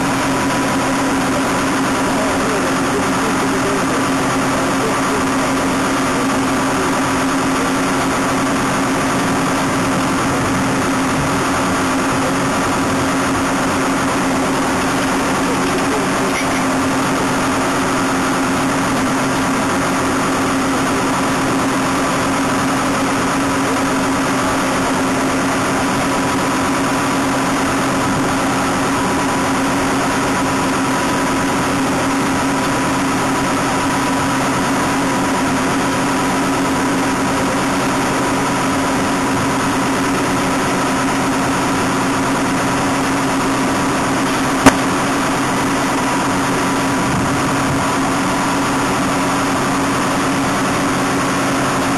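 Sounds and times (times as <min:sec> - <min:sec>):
harvester machine droning: 0:00.0 - 0:51.9.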